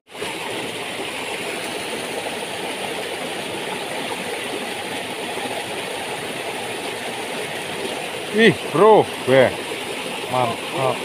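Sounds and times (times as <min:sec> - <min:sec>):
stream rushing over rocks: 0:00.1 - 0:11.0.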